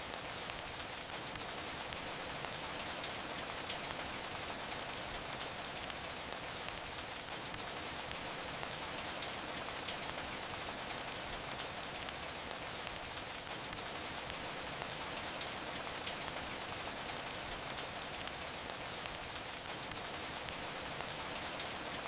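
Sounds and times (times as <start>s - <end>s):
rain hiss: 0.0s - 22.0s
wood fire crackling and popping: 0.0s - 22.0s.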